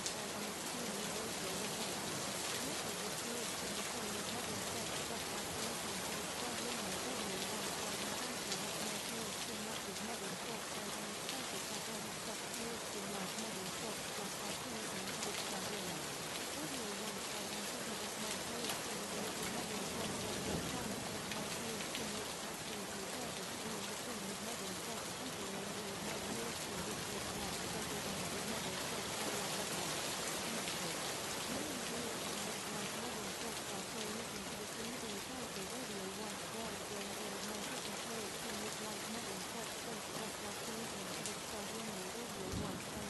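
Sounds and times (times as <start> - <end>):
faint indistinct voice: 0.0 - 43.0
steady rain: 0.0 - 43.0.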